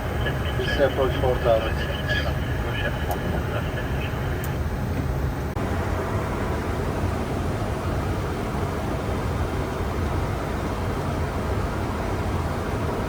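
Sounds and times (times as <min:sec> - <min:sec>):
aircraft cockpit air rush: 0:00.0 - 0:13.0
low engine rumble: 0:00.0 - 0:13.0.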